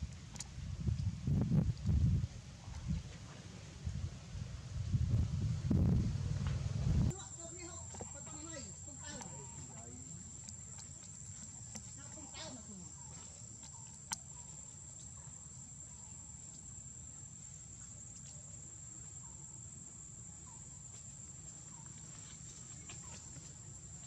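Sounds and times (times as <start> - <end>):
soft outdoor background noise: 0.0 - 24.0.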